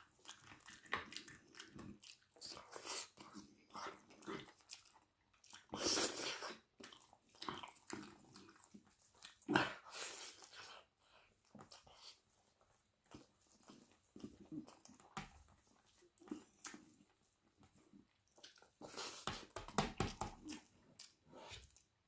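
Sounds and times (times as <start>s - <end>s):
wet chewing: 0.0s - 21.9s.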